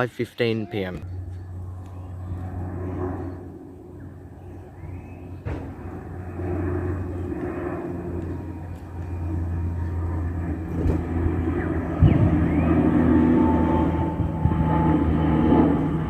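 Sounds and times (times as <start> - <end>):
turboprop airplane engine drone: 0.0 - 16.0.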